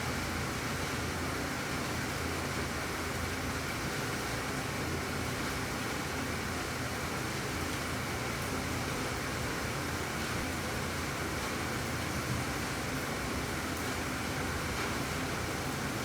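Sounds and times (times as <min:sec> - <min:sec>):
steady rain falling: 0:01.5 - 0:16.0.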